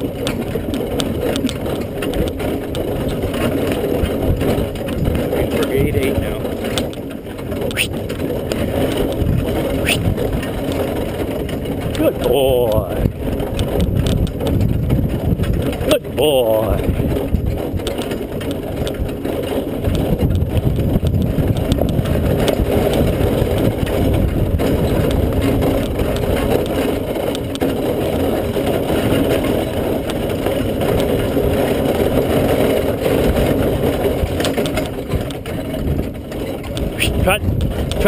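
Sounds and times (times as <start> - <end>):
carriage wheels crunching and rattling: 0.0 - 38.0
horse hoofbeats: 0.0 - 38.0.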